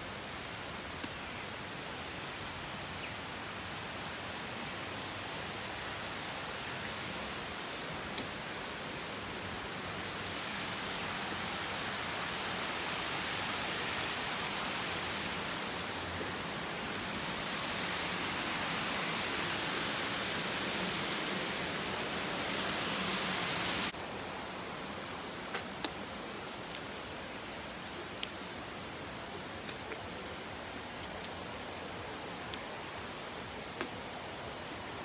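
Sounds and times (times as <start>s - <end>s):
background hiss: 0.0s - 35.0s
water cascading over rocks: 0.0s - 35.0s.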